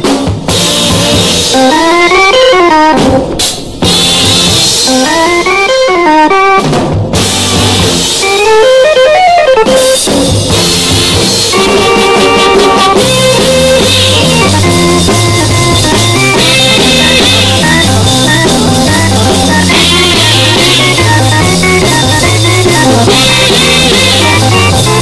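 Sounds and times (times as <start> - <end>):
drum kit beat: 0.0 - 25.0
guitar playing: 0.7 - 25.0.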